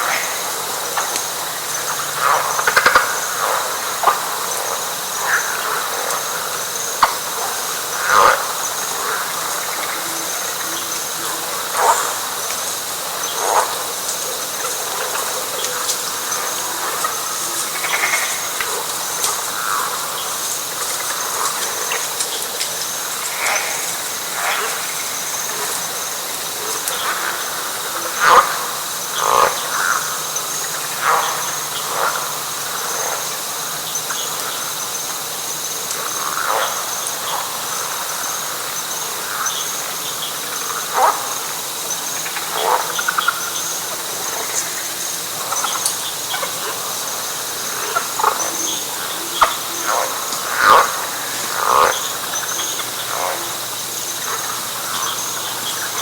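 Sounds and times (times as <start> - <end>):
frogs calling: 0.0 - 56.0
insects trilling: 0.0 - 56.0.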